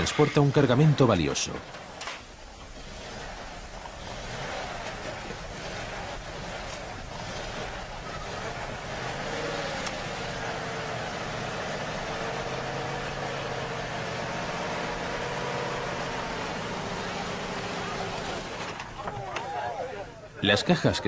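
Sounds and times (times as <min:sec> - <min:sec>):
aircraft engines running: 0:00.0 - 0:21.0.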